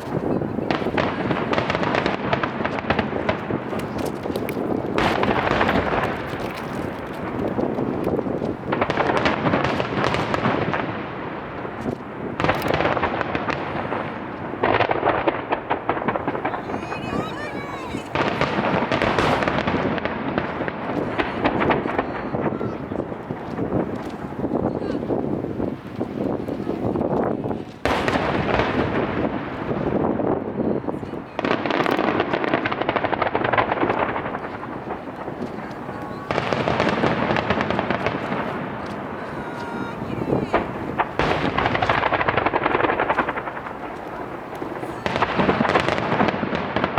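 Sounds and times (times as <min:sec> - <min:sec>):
fireworks booming and crackling: 0:00.0 - 0:46.9.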